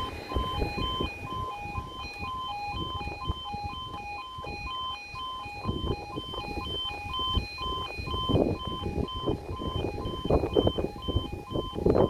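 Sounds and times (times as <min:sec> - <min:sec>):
level crossing alarm two-tone: 0:00.0 - 0:12.0
low rumbling noise: 0:00.0 - 0:12.0.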